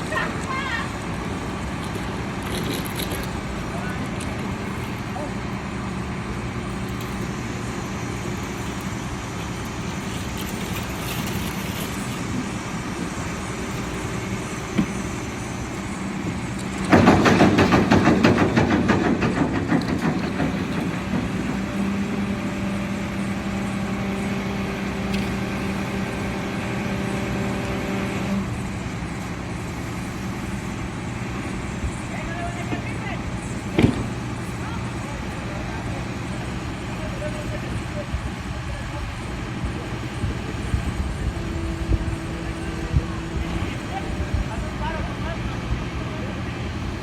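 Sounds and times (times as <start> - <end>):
steady hum: 0.0 - 47.0
vehicle engine running: 0.0 - 47.0.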